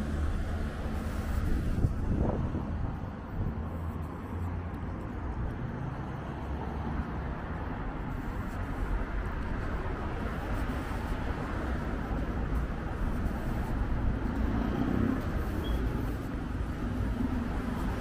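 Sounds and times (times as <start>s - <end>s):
road traffic hum: 0.0s - 18.0s
vehicle passing: 0.0s - 18.0s.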